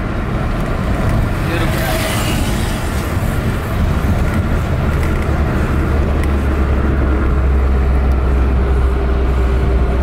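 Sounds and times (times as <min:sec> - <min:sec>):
vehicle engine and tyre noise: 0:00.0 - 0:10.0.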